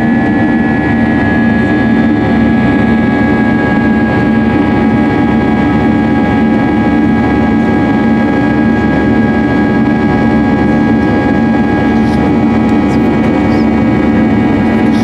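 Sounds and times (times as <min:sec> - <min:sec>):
jet engines droning in cabin: 0:00.0 - 0:15.0.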